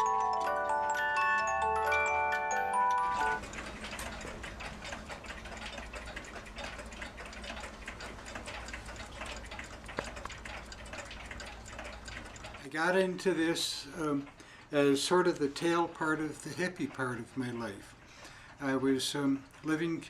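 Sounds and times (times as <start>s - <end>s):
mechanical clocks ticking: 0.0s - 20.0s.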